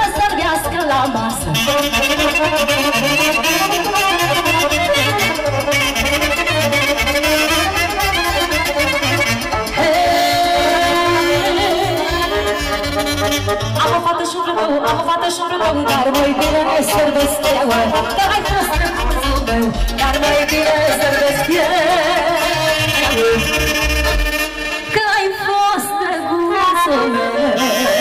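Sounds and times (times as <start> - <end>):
accordion melody: 0.0 - 28.0
saxophone melody: 0.2 - 28.0.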